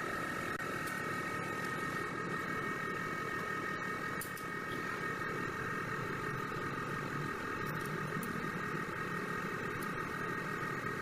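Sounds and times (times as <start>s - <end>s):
mechanical hum with whine: 0.0s - 11.0s.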